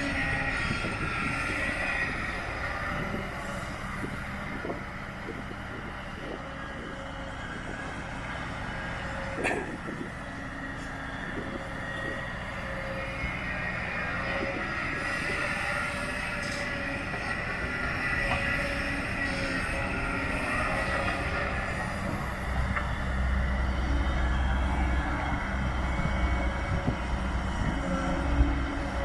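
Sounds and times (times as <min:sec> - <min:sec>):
excavator diesel engine whining: 0:00.0 - 0:29.0.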